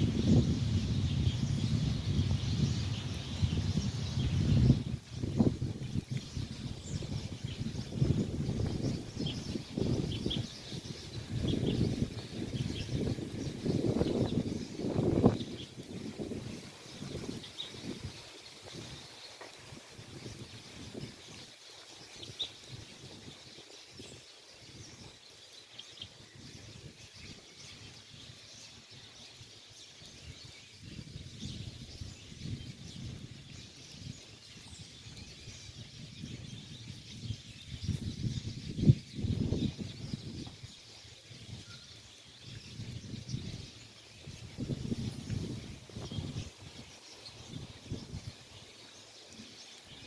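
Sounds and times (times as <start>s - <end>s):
wild birds chirping: 0.0s - 50.0s.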